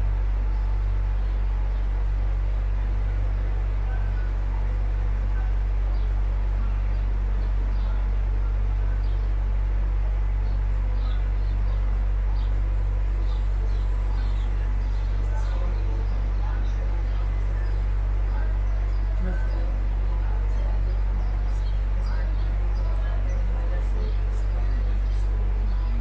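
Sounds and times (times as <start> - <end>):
boat motor droning: 0.0 - 26.0.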